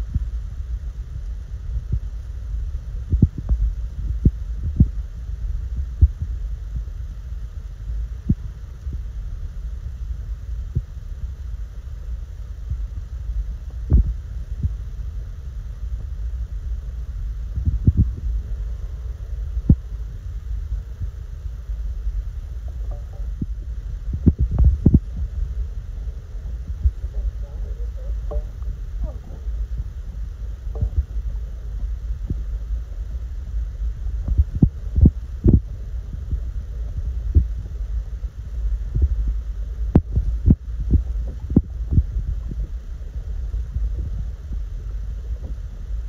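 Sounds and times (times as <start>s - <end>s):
low handling rumble: 0.0s - 46.0s.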